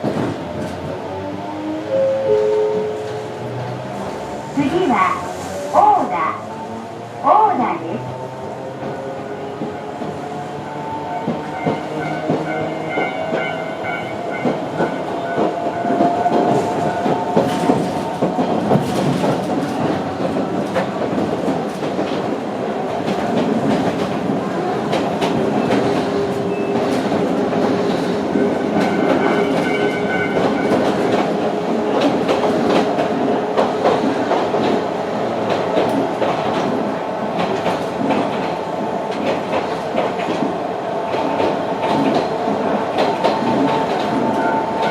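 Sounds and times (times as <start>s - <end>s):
train wheels clattering on rails: 0.0s - 1.1s, 2.3s - 44.9s.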